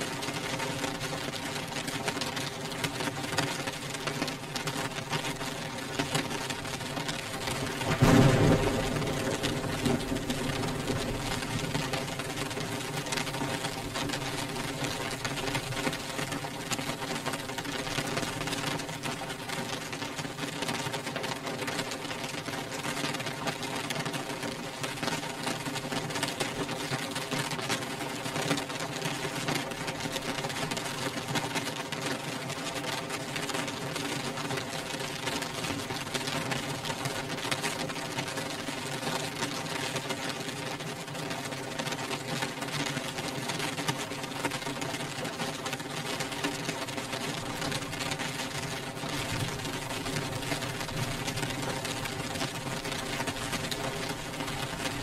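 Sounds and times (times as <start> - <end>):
rain on window glass: 0.0 - 55.0.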